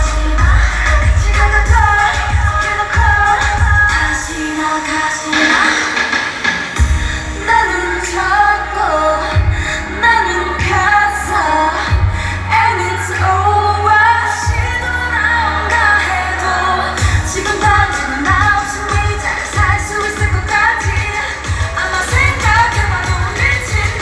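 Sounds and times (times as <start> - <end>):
heavy bass beat: 0.0 - 24.0
pop song with female vocals: 0.0 - 24.0.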